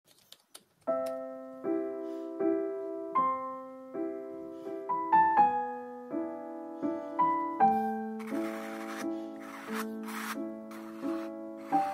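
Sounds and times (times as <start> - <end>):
soft piano chords: 0.8 - 11.9.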